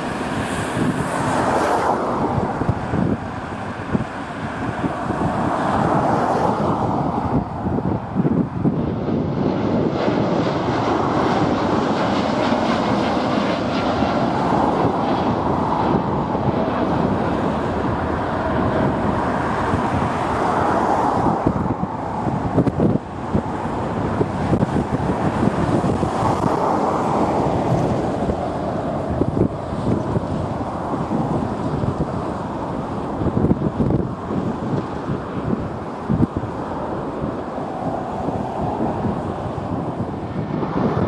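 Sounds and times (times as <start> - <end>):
jet engine rumble: 0.0 - 41.0
wind buffeting microphone: 0.0 - 41.0.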